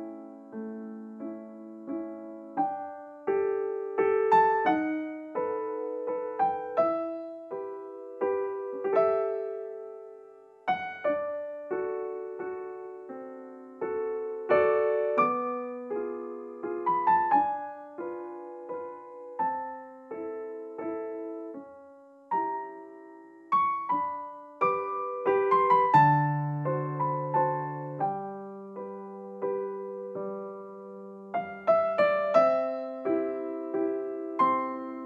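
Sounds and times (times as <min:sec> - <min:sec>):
slow piano melody: 0:00.0 - 0:35.0.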